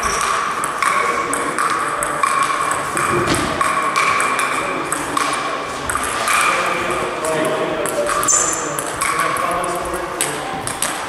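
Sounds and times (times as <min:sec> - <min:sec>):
table tennis ball clicking: 0:00.0 - 0:06.5, 0:07.2 - 0:09.4, 0:10.0 - 0:11.0.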